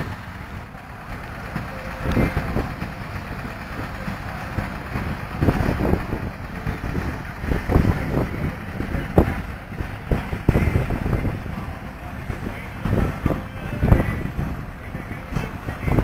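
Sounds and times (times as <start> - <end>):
threshing machine rumbling: 0.0 - 16.0
wind buffeting microphone: 0.0 - 16.0.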